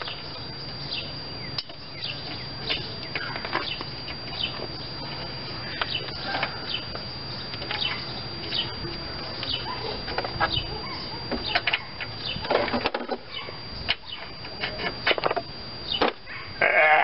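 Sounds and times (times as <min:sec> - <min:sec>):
small birds chirping: 0:00.0 - 0:12.6, 0:13.2 - 0:15.0, 0:15.7 - 0:16.6
steady low hum: 0:00.0 - 0:17.0.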